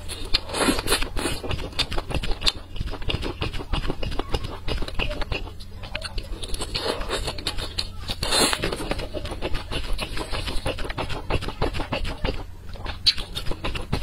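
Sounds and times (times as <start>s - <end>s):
close chewing of meat: 0.0s - 14.0s.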